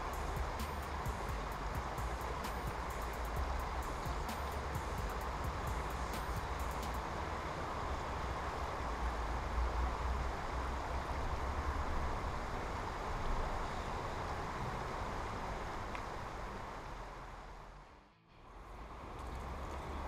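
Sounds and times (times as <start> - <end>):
river water running over stones: 0.0 - 20.0.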